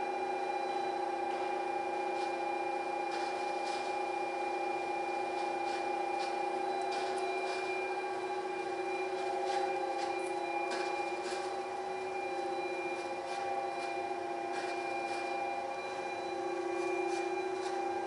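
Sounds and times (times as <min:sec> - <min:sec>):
dough mixer humming: 0:00.0 - 0:18.0.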